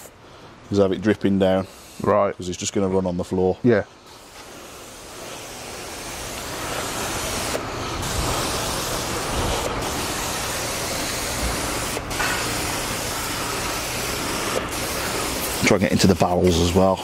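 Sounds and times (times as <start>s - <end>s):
hissing spray from pump sprayer: 1.4s - 2.3s, 4.0s - 17.0s.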